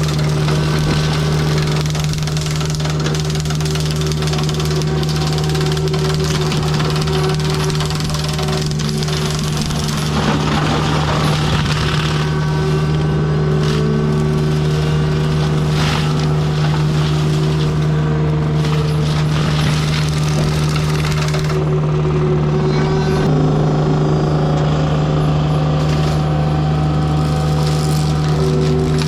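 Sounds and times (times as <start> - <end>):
sharp wood crunches: 0.0 - 21.7, 25.8 - 29.0
mulching head grinding wood: 0.0 - 23.4, 25.6 - 29.0
diesel engine running at high revs: 0.0 - 29.0.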